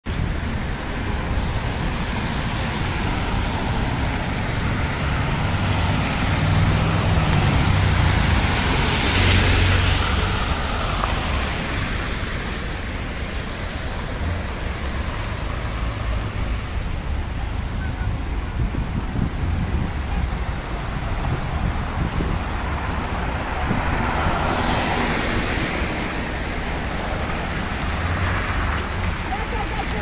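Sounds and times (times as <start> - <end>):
rumble of passing cars: 0.1 - 30.0.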